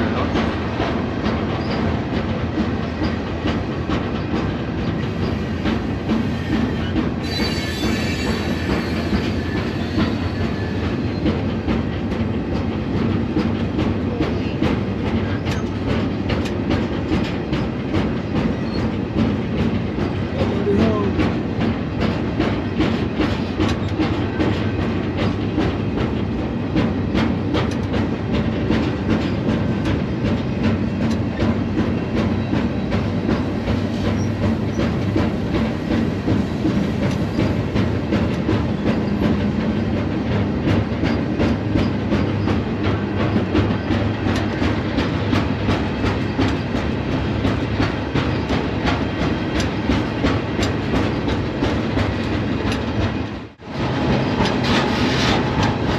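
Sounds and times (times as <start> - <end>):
freight train rumbling: 0.0 - 55.9
steel wheels clacking over rails: 0.0 - 55.9.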